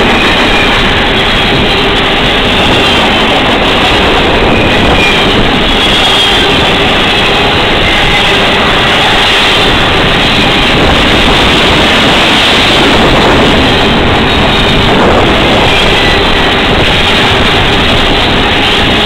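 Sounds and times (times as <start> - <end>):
freight train wheels rolling: 0.0 - 19.0.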